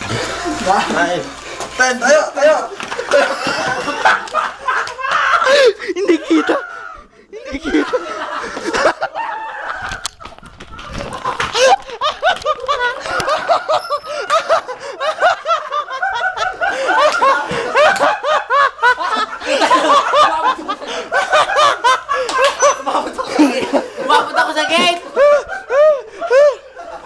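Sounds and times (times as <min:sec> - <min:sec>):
people laughing: 0:00.0 - 0:27.0.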